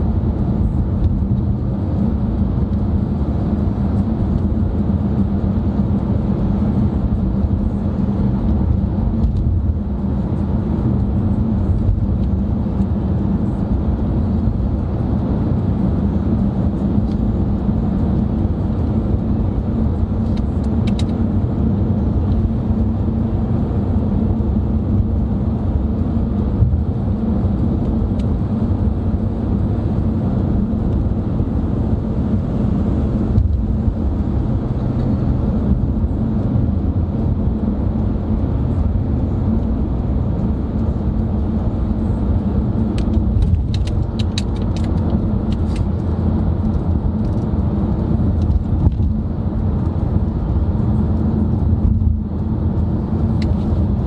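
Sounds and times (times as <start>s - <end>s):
car cabin road and engine rumble: 0.0s - 54.0s.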